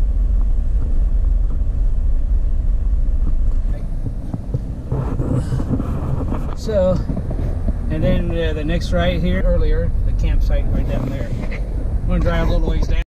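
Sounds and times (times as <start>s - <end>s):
car road noise on dirt track: 0.0s - 13.0s.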